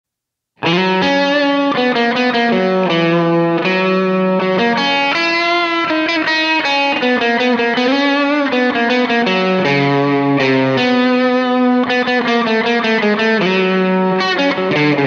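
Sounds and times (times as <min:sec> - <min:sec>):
distorted electric guitar: 0:00.6 - 0:15.0
instrumental rock music: 0:00.6 - 0:15.0.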